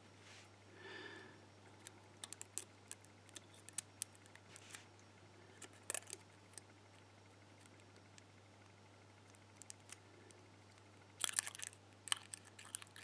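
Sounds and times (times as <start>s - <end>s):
faint metal clicks and ticks: 1.6s - 13.0s.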